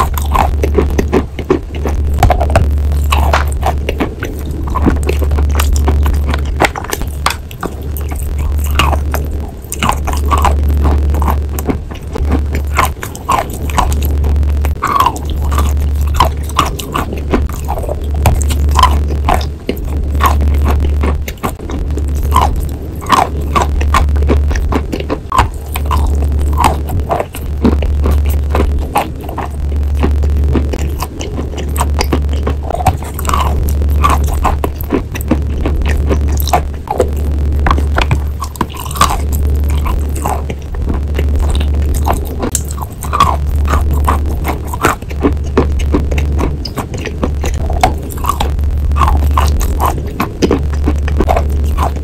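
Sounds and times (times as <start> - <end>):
biting and chewing chalk: 0.0 - 52.0.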